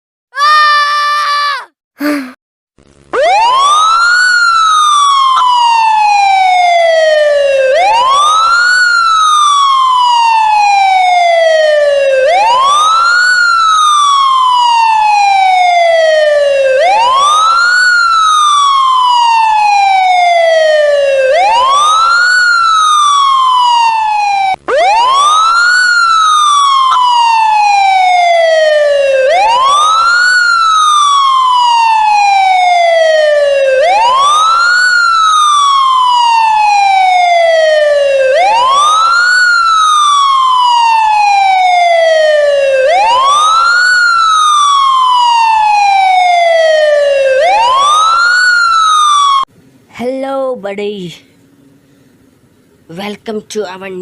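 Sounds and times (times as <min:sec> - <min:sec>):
siren wailing: 0:03.1 - 0:49.5.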